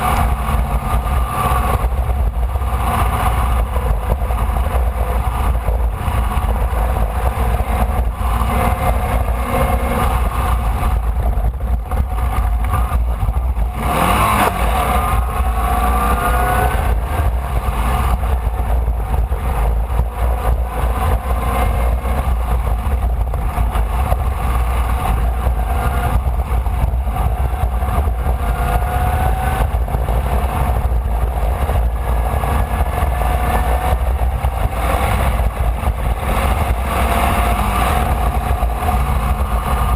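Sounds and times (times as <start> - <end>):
low rumble: 0.0 - 39.9
racing car engine accelerating: 0.0 - 39.9.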